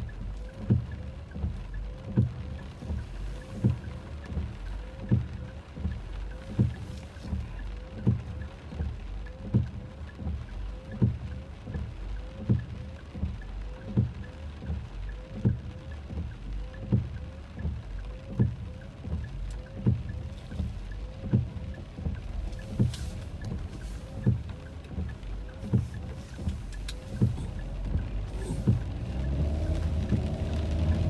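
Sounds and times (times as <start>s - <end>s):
low steady rumble: 0.0s - 31.0s
windshield wipers thumping: 0.0s - 31.0s.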